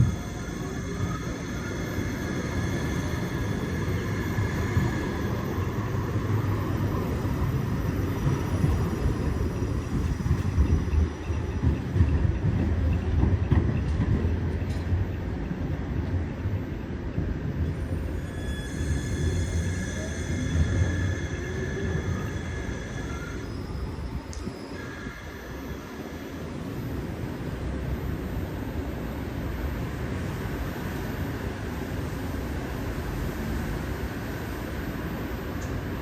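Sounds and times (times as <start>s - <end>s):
tram rumbling on rails: 0.0s - 36.0s.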